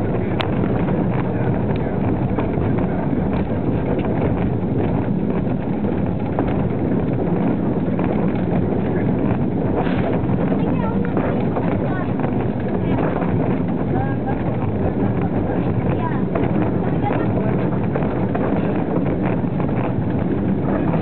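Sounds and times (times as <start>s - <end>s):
clicks over rail joints: 0.0s - 21.0s
wheels rumbling on track: 0.0s - 21.0s
wind on microphone: 0.0s - 21.0s.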